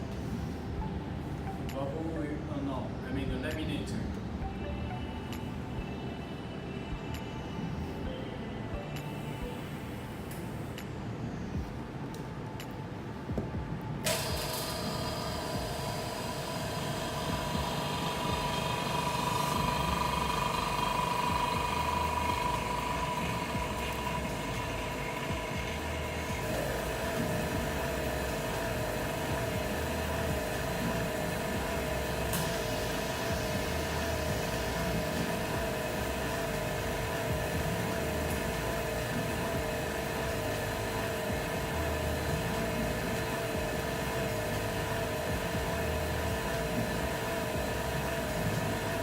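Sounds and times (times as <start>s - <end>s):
machine hum with whine: 0.0s - 49.0s.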